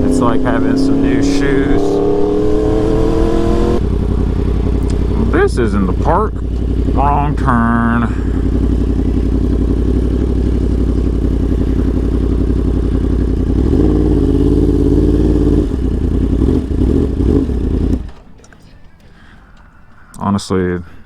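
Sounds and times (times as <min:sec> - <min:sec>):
motorcycle engine running: 0:00.0 - 0:18.6.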